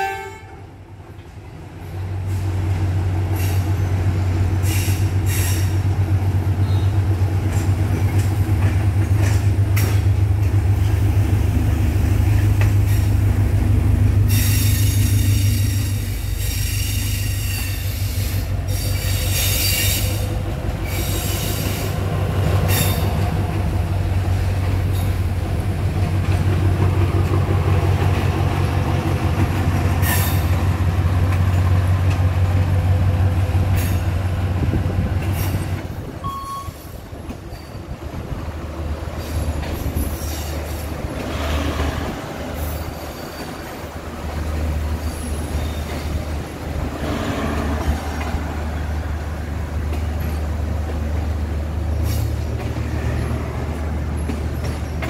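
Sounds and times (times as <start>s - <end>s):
diesel train engine drone: 0.0s - 55.0s
train wheels squealing and clicking: 1.1s - 11.1s, 14.2s - 23.6s, 24.3s - 32.6s, 33.5s - 34.4s, 35.1s - 55.0s.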